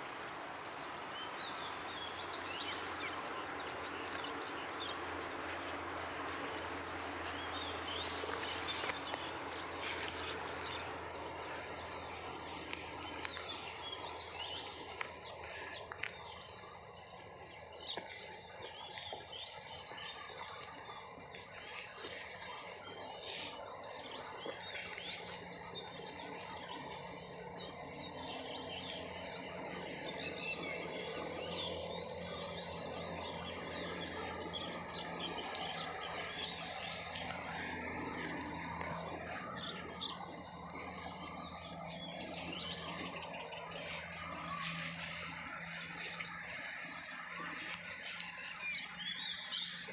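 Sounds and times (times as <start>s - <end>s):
birds chirping: 0.0s - 49.9s
steady low hum: 0.0s - 49.9s.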